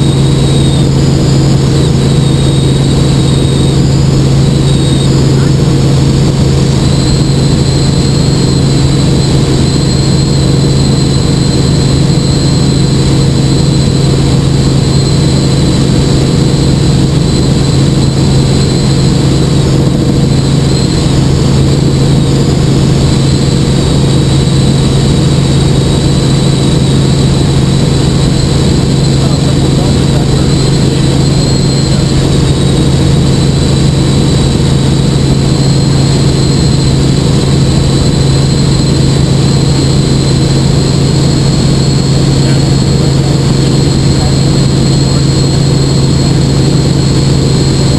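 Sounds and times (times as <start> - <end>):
helicopter engine and rotor drone: 0.0 - 47.9
high whine: 0.0 - 47.9.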